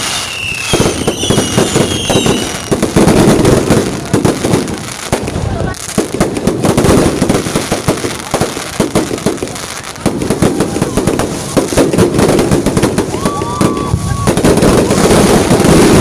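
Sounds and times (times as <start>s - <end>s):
firecrackers banging and crackling: 0.0s - 16.0s.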